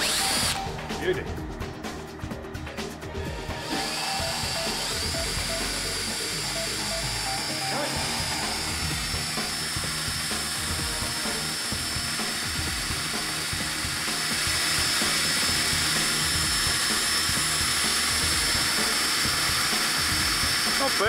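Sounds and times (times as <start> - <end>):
drill wire brush whining: 0.0 - 1.2, 3.3 - 21.0.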